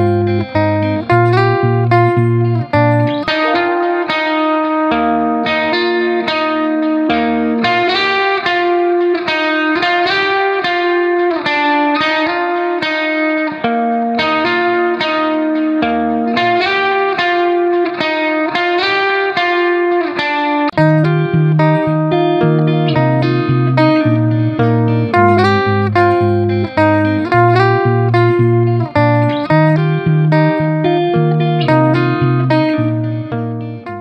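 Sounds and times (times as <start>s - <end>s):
plucked string melody: 0.0s - 34.0s.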